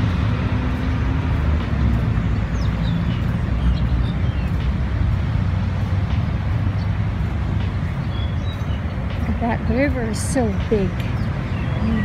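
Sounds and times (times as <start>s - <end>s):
low urban rumble: 0.0s - 12.0s.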